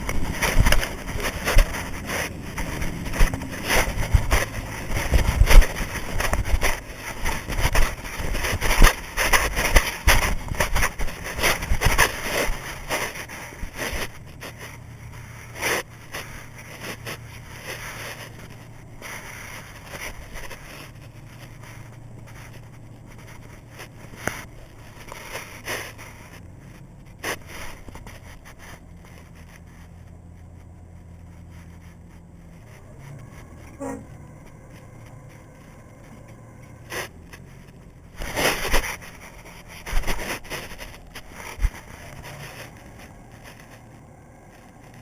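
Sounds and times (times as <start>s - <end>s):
loud knocks and scrapes: 0.0s - 30.1s, 31.3s - 45.0s
boat engine humming: 0.0s - 45.0s.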